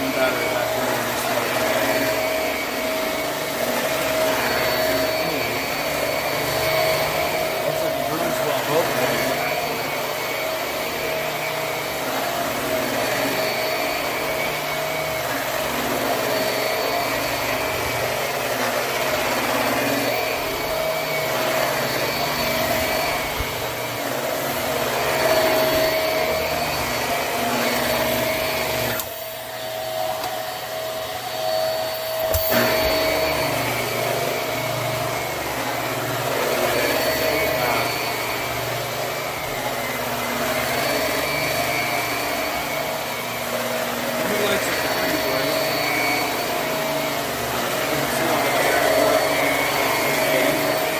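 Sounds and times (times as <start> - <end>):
vacuum cleaner running on carpet: 0.0 - 50.9.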